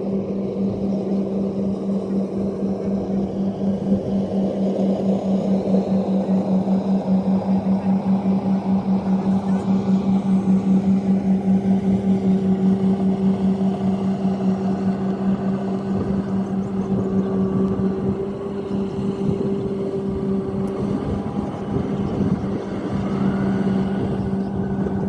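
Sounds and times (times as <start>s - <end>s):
combine harvester engine hum: 0.0s - 25.0s
machinery noise: 0.6s - 25.0s.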